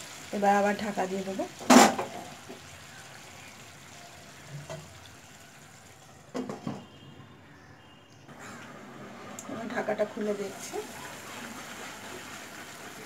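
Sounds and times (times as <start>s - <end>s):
food simmering in a pan: 0.0s - 6.2s, 8.6s - 13.0s.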